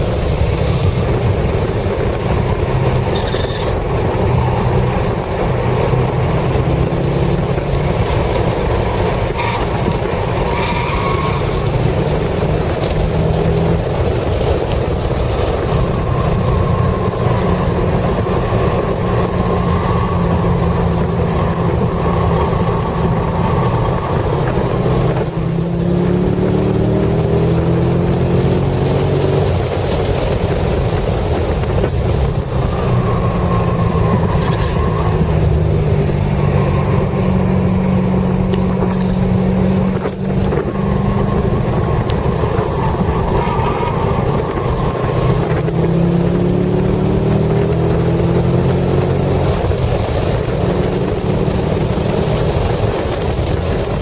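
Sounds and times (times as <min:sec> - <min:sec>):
car engine revving: 0:00.0 - 0:54.0
wind and tyre noise: 0:00.0 - 0:54.0.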